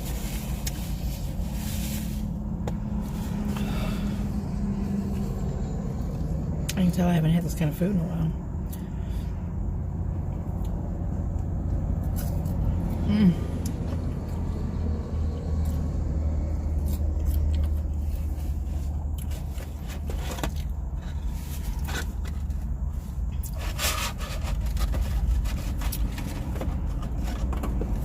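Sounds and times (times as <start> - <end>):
car engine hum from cabin: 0.0 - 28.0.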